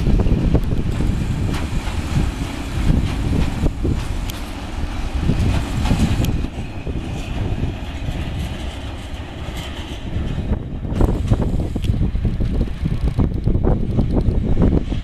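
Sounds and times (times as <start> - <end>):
freight wagons rumbling on rails: 0.0 - 15.0.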